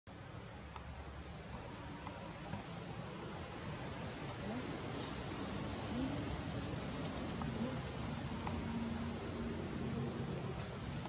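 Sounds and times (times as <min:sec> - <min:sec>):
insect chorus drone: 0:00.1 - 0:11.0.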